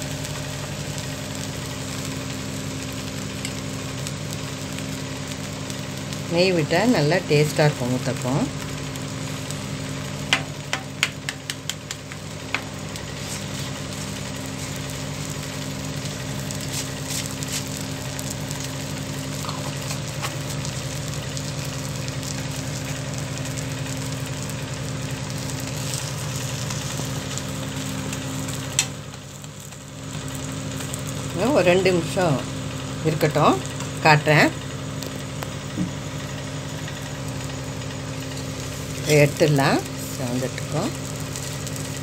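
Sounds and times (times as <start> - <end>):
low steady hum: 0.0 - 17.1, 17.7 - 42.0
ghee sizzling on a hot griddle: 0.0 - 42.0.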